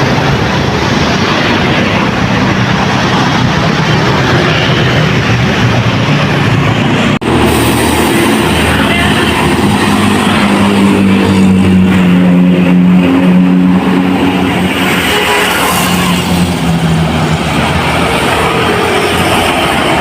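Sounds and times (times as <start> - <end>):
buses passing with tyre noise: 0.0 - 20.0
low engine drone: 0.0 - 20.0.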